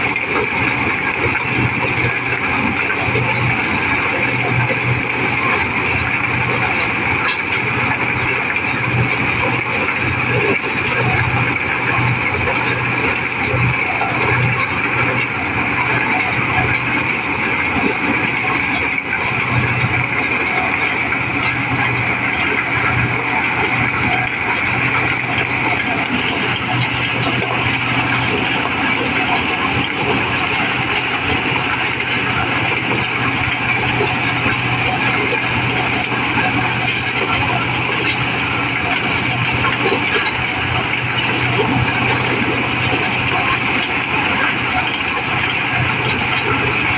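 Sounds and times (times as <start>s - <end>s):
corn sheller running: 0.0s - 46.9s.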